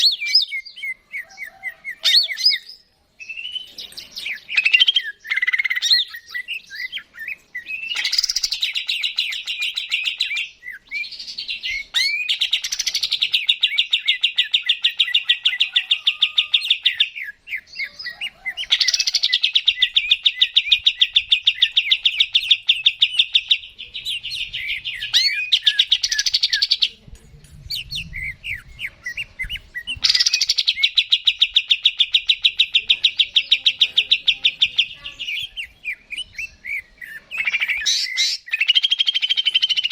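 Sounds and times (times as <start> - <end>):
bird trilling: 0.0 - 27.0, 27.8 - 39.9
bird chirps and whistles: 2.0 - 17.7, 18.6 - 26.8, 27.7 - 39.9.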